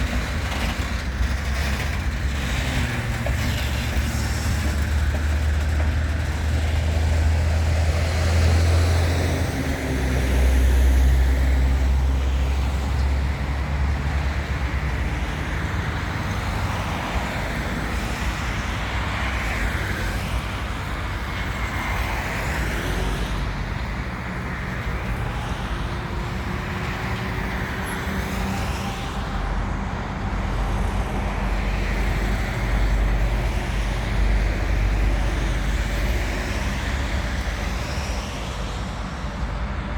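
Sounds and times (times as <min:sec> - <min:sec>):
diesel locomotive engine drone: 0:00.0 - 0:39.9.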